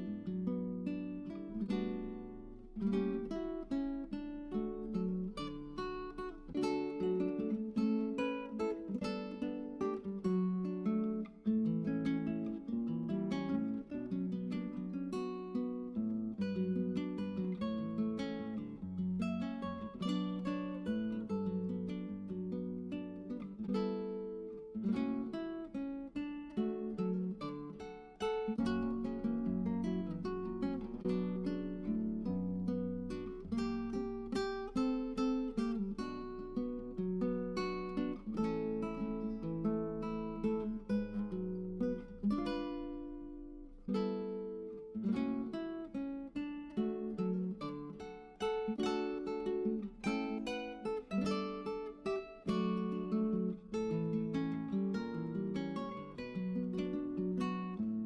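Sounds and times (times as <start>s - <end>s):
acoustic guitar plucked and strummed: 0.0s - 58.0s.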